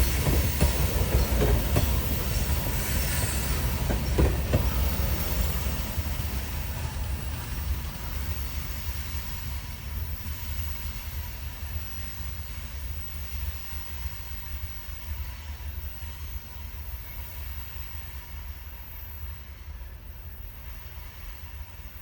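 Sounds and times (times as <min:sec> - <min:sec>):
freight train rumbling: 0:00.0 - 0:22.0.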